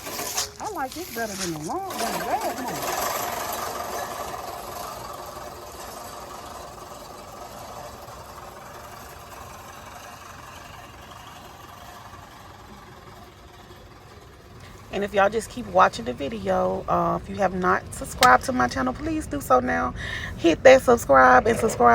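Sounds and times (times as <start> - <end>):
reel lawn mower cutting grass: 0.0 - 18.9.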